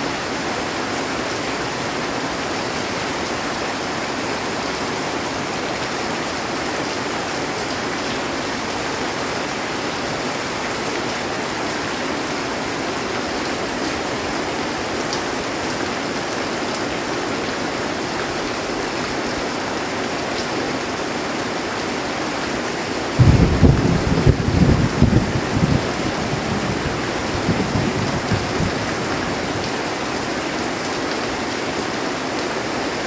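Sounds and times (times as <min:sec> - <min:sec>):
heavy rain on a metal roof: 0:00.0 - 0:33.0.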